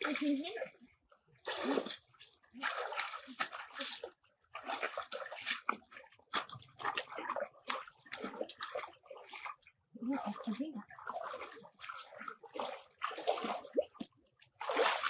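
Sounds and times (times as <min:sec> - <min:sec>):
water splashing and sloshing: 0:00.0 - 0:15.0
sharp water splatters: 0:01.4 - 0:15.0.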